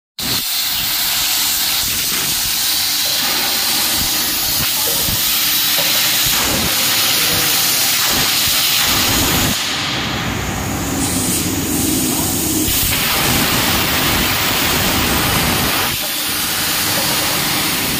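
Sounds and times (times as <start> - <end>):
plasma cutter hissing: 0.2 - 17.9.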